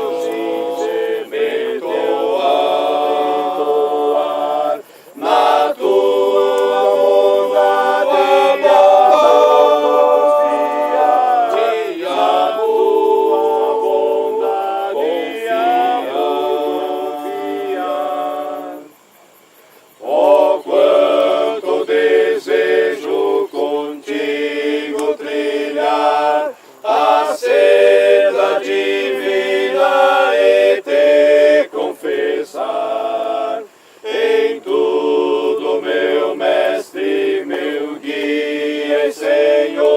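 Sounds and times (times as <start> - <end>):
group singing unaccompanied: 0.0 - 39.9.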